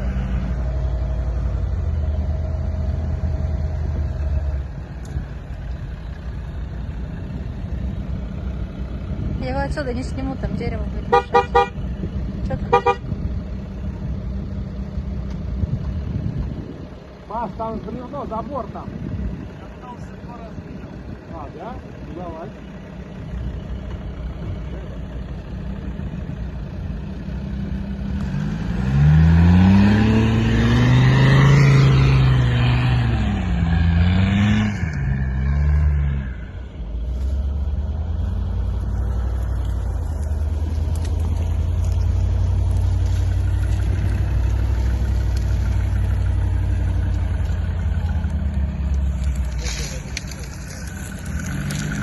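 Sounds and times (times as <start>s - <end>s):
suv engine revving: 0.0s - 52.0s.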